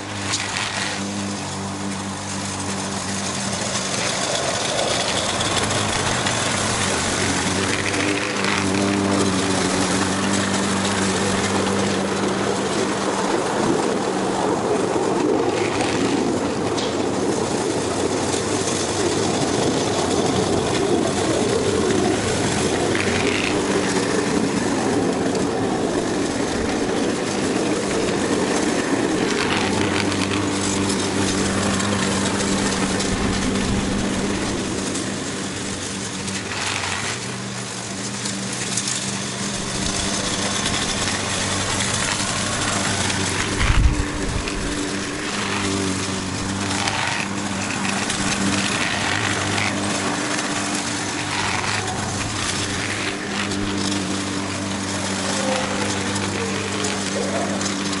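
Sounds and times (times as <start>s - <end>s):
push mower engine running: 0.0s - 58.0s.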